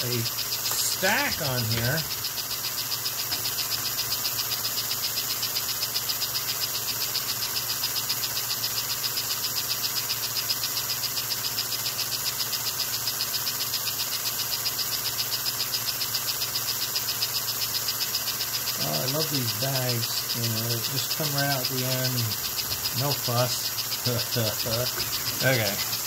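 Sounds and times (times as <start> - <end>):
toy train motor whirring: 0.0 - 26.0.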